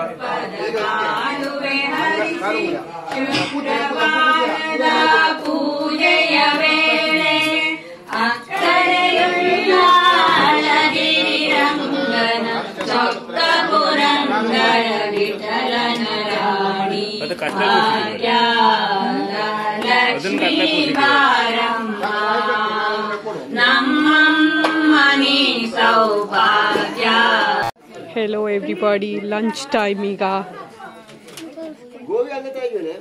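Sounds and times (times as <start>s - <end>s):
women singing together: 0.0s - 27.8s.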